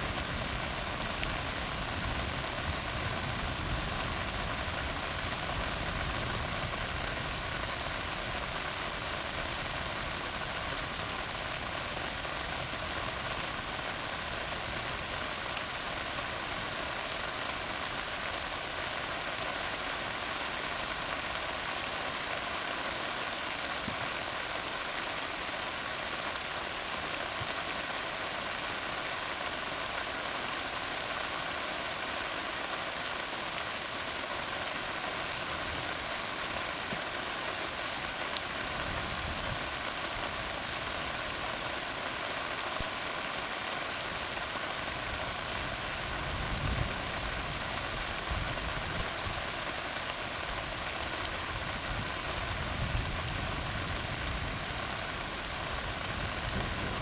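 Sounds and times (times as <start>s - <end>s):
rain falling on road: 0.0s - 57.0s.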